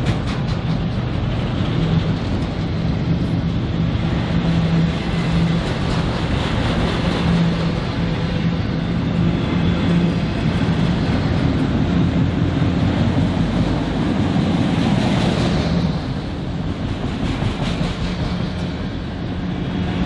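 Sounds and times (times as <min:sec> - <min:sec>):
moving train noise: 0:00.0 - 0:20.0.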